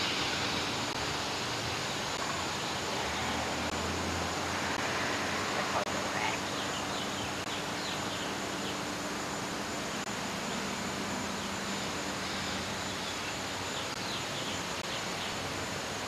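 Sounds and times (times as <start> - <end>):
thin high whine: 0.0 - 16.0
video tape hiss: 0.0 - 16.0.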